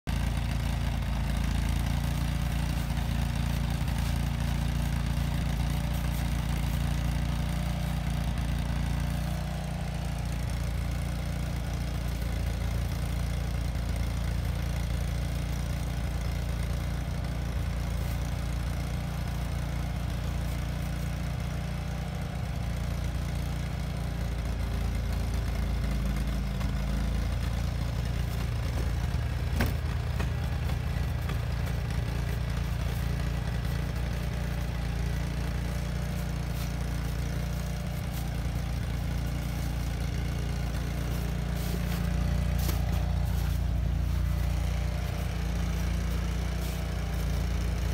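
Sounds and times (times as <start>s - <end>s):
engine idling: 0.1s - 47.9s.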